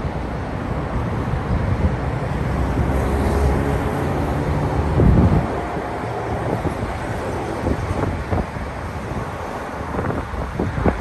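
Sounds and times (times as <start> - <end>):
jet engines rumbling: 0.0 - 11.0
road traffic passing: 0.0 - 11.0.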